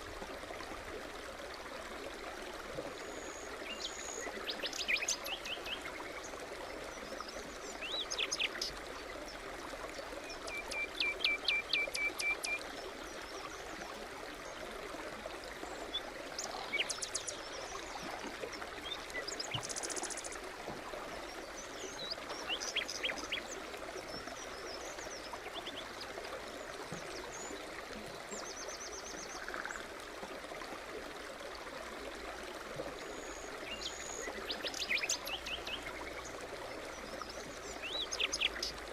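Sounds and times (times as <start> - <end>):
forest stream babbling: 0.0 - 38.9.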